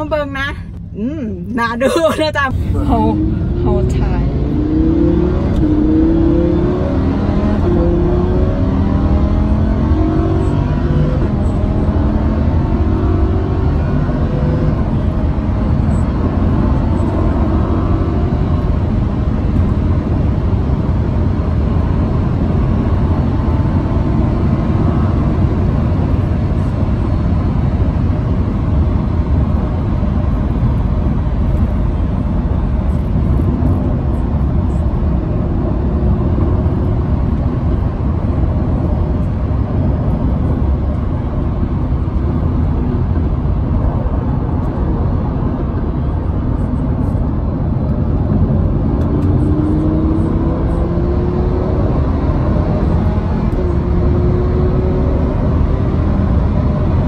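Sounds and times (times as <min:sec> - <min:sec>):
car engine revving: 0:00.0 - 0:57.0
road noise at speed: 0:00.0 - 0:57.0.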